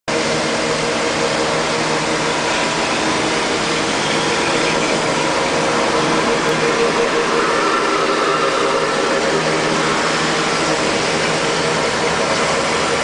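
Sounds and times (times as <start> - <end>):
band saw running: 0.1 - 13.0.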